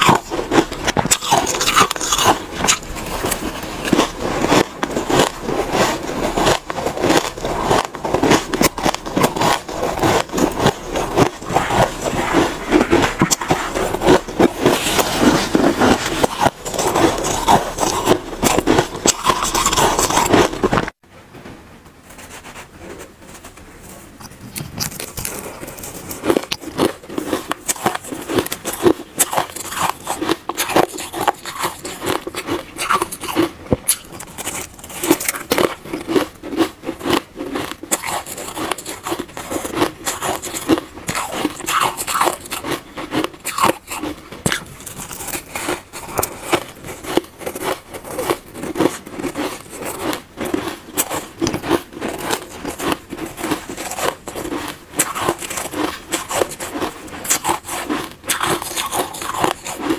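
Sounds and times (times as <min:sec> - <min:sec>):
shaved ice crunching: 0:00.0 - 0:20.8, 0:24.8 - 0:59.9.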